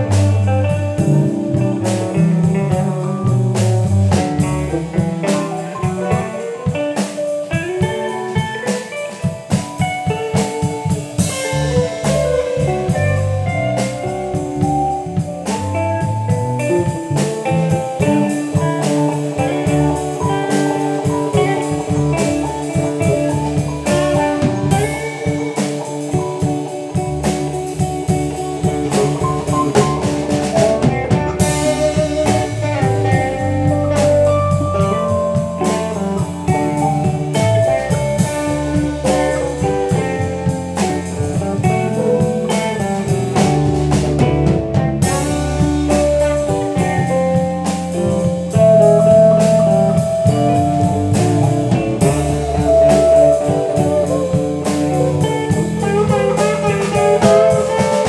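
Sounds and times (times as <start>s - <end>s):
bass line: 0.0s - 58.0s
blues guitar: 0.0s - 58.0s
drum kit: 0.0s - 58.0s.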